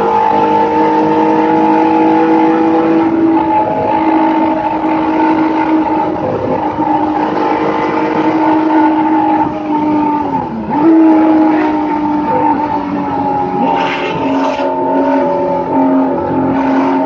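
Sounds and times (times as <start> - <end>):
race car engine at speed: 0.0 - 17.0
road and wind noise: 0.0 - 17.0.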